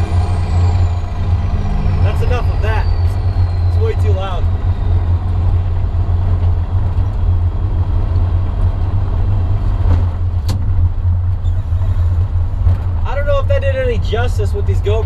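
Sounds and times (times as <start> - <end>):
deep exhaust drone: 0.0 - 15.0.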